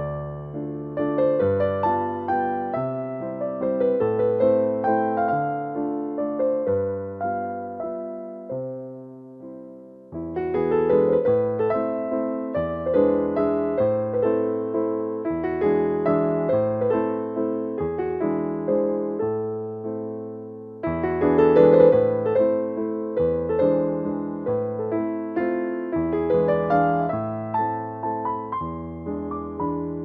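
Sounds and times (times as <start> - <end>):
gentle piano melody: 0.0 - 30.0.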